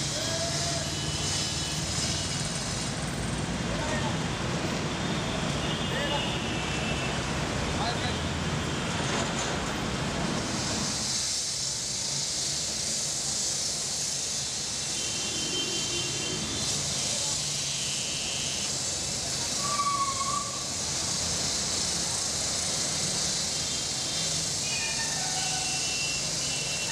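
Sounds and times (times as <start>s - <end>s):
high hiss: 0.0s - 8.9s, 9.9s - 26.9s
low traffic rumble: 0.0s - 26.9s.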